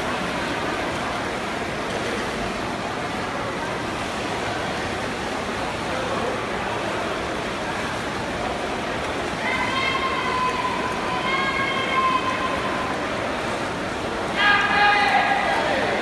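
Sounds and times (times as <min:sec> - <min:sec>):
swimmers splashing water: 0:00.0 - 0:16.0.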